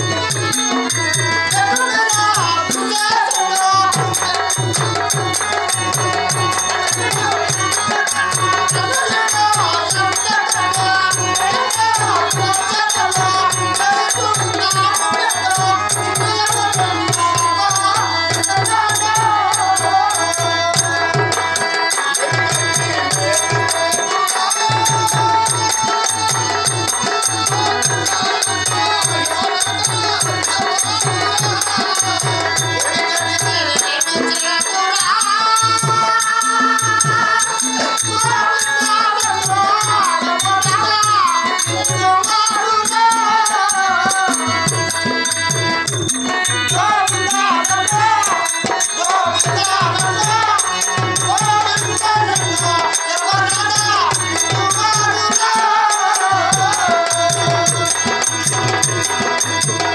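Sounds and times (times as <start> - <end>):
harmonium: 0.0 - 59.9
jingling percussion: 0.0 - 59.9
person singing: 0.0 - 59.9.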